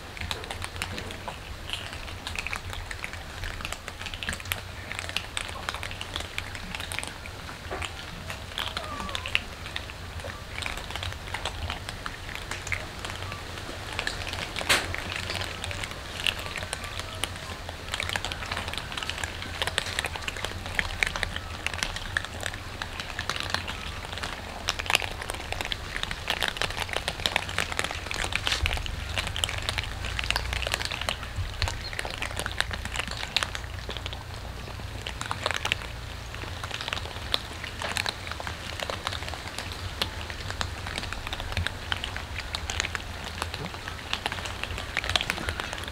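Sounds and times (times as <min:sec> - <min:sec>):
cats crunching dry kibble: 0:00.0 - 0:45.9
low steady hum: 0:00.0 - 0:45.9.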